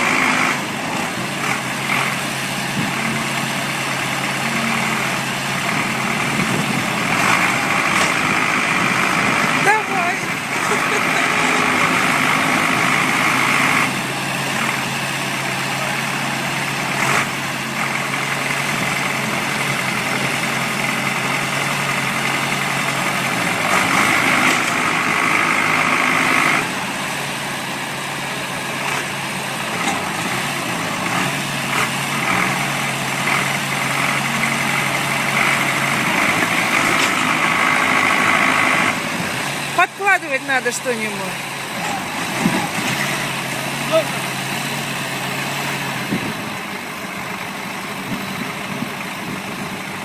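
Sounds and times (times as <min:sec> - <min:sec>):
heavy vehicle engine running: 0:00.0 - 0:50.0.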